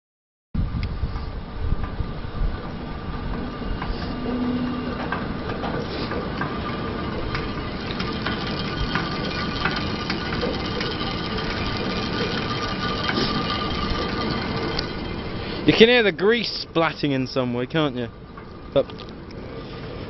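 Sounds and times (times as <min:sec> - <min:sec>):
cables rattling rumble: 0:00.6 - 0:20.0.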